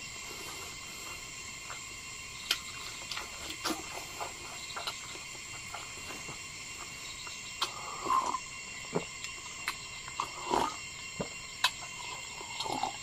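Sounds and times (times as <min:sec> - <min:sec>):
high-pitched background hiss: 0:00.0 - 0:13.0
man chewing food: 0:00.2 - 0:13.0.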